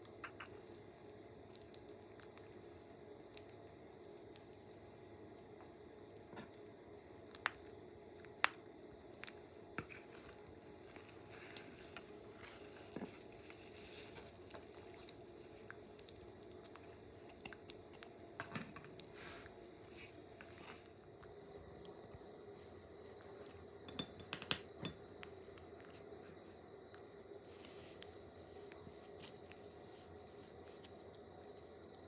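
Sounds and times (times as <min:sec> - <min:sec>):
tortoises chewing greens: 0:00.0 - 0:23.8, 0:25.4 - 0:32.0
steady low hum: 0:00.0 - 0:32.0.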